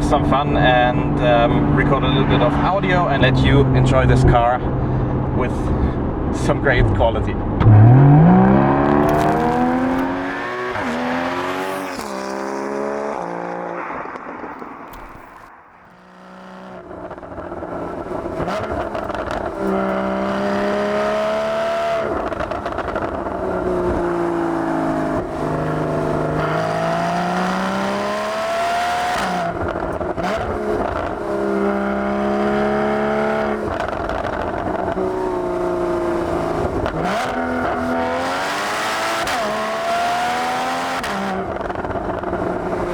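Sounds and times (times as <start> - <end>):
car exhaust under hard driving: 0.0 - 42.9.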